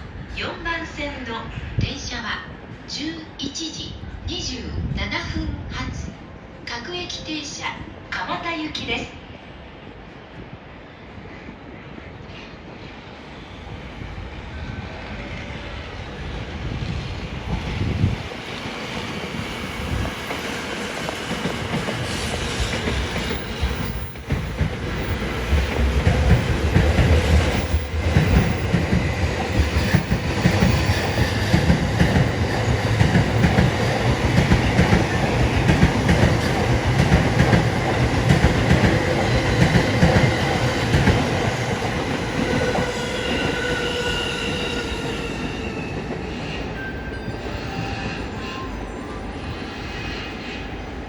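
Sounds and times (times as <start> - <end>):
train wheels rumbling on rail: 9.9 - 51.0.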